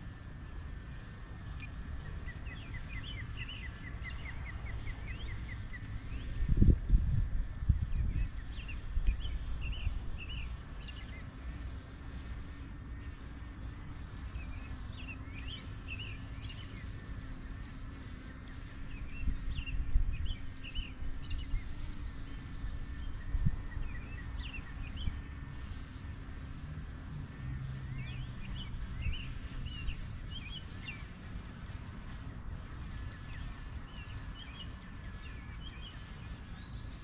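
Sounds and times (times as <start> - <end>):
faint steady hum: 0.0 - 37.0
steady low rumble: 0.0 - 37.0.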